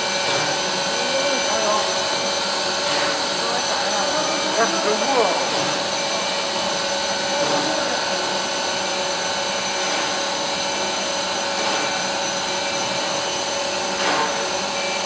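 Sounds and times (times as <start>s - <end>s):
cnc wood router whining: 0.0s - 15.0s.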